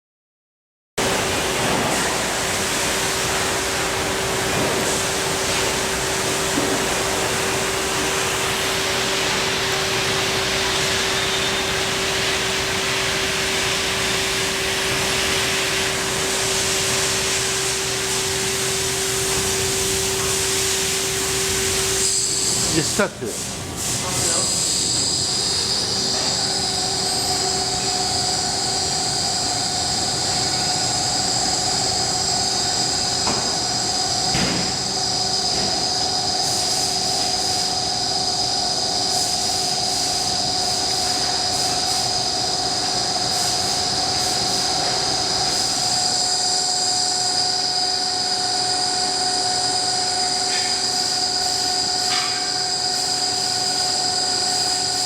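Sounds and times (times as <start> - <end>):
milling machine whine and hum: 1.0 - 55.0.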